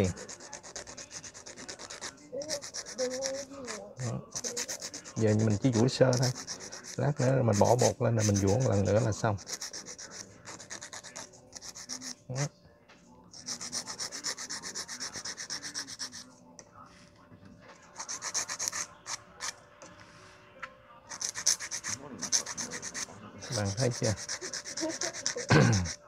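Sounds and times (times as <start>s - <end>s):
nail file rasping: 0.0s - 12.5s, 13.3s - 16.2s, 17.9s - 19.6s, 21.1s - 26.0s.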